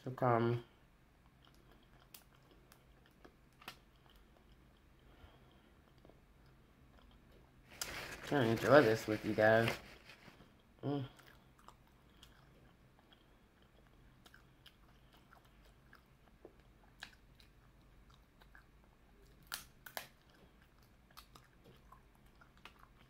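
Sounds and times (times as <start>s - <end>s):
faint chewing and mouth sounds: 0.6s - 23.0s.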